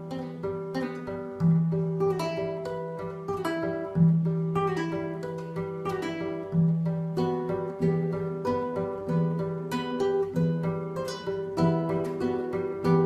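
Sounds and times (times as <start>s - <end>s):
acoustic guitar fingerpicking: 0.0s - 13.0s.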